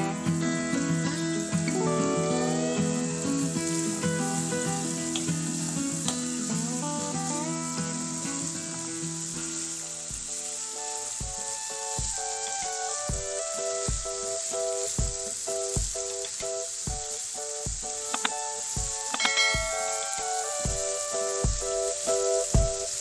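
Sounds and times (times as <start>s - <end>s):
food sizzling in hot oil: 0.0s - 23.0s
melodic backing track with beat: 0.0s - 23.0s.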